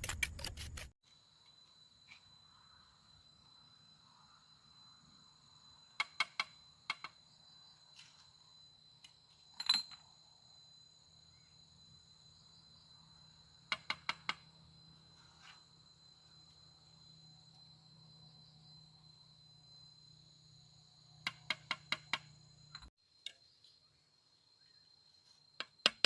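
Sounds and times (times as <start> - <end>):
insects chirring: 1.1 - 26.0.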